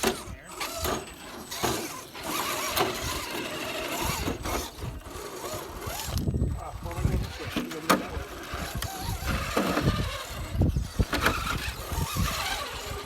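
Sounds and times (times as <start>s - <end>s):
electric motor and gears whirring: 0.0s - 13.0s.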